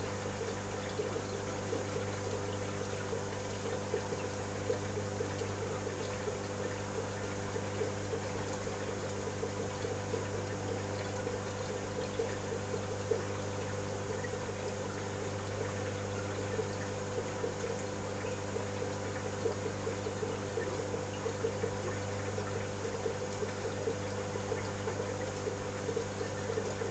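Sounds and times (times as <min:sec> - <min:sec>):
circulating water: 0:00.0 - 0:26.9
pump hum: 0:00.0 - 0:26.9.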